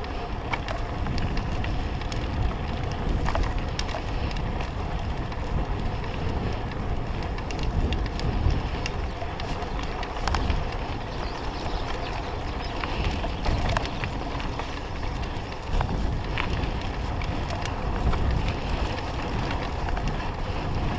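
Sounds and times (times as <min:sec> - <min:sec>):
bike clicks and rattles: 0:00.0 - 0:20.9
bike tyres on gravel track: 0:00.0 - 0:20.9
wind rumbling on microphone: 0:00.0 - 0:20.9.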